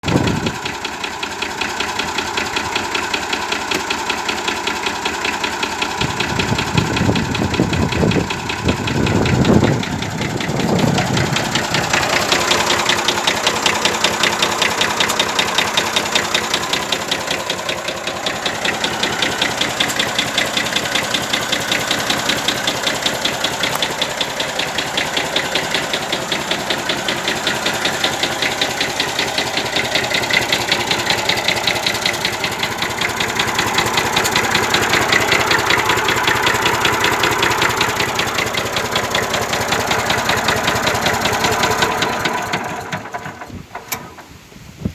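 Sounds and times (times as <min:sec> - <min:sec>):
rhythmic engine knock: 0:00.0 - 0:43.5
tractor engine idling: 0:00.0 - 0:44.8.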